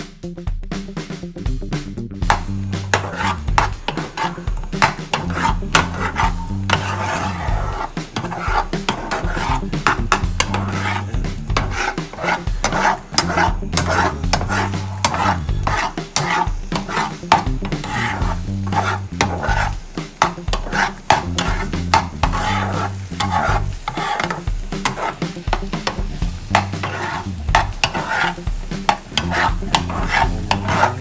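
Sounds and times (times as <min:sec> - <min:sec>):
background music: 0:00.0 - 0:31.0
spatula scraping frying pan: 0:02.2 - 0:31.0.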